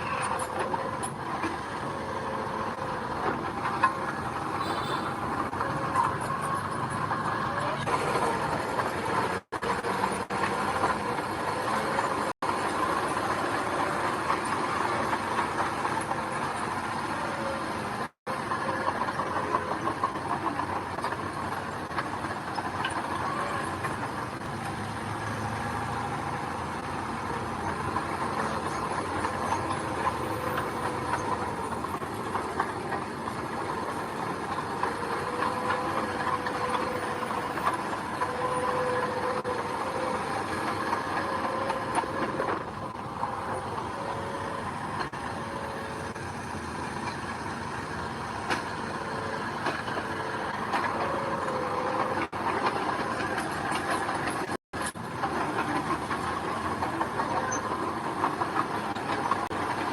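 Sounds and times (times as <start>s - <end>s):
bulldozer engine clattering: 0.0s - 59.9s.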